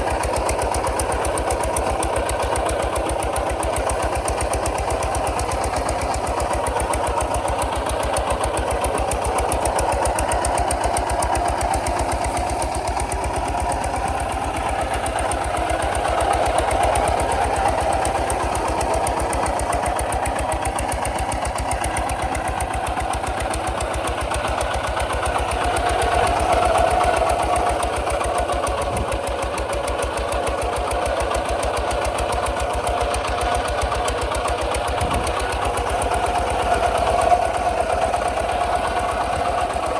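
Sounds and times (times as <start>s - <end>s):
single-cylinder diesel engine running: 0.0s - 39.9s.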